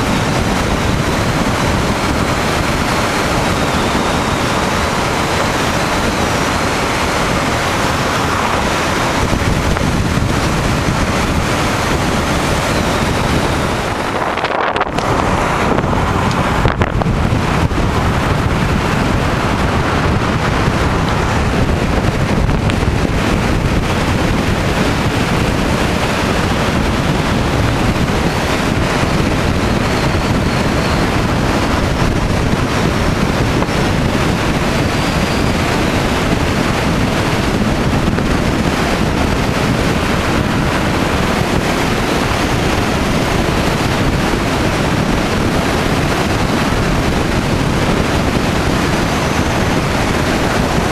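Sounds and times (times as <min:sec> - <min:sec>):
vehicle road and engine noise: 0:00.0 - 0:50.9
wind rushing over microphone: 0:00.0 - 0:50.9.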